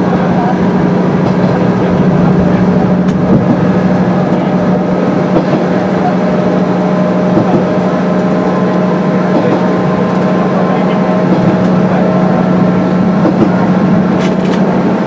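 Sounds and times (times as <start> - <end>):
diesel engine drone: 0.0 - 15.0
wheels rumbling on rail: 0.0 - 15.0.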